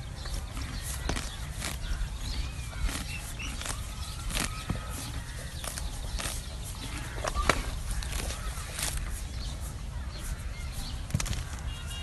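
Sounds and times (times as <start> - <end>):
horse tearing and chewing grass: 0.0 - 12.0
steady low rumble: 0.0 - 12.0.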